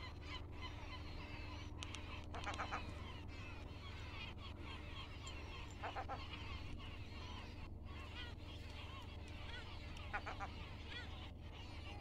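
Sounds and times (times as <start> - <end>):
birds chirping and twittering: 0.0 - 12.0
steady low hum: 0.0 - 12.0.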